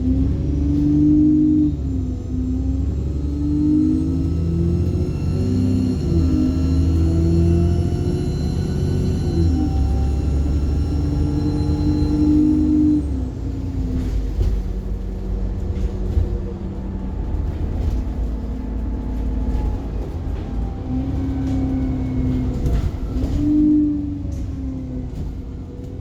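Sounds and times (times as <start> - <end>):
bus engine drone with whine: 0.0 - 26.0.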